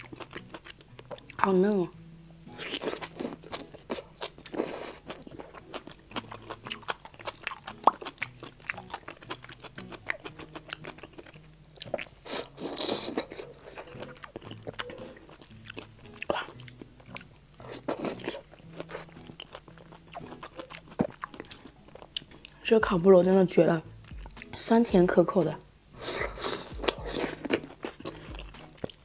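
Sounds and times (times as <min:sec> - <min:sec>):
chewing crunchy fried food: 0:00.0 - 0:01.5, 0:02.6 - 0:22.7, 0:26.0 - 0:29.0.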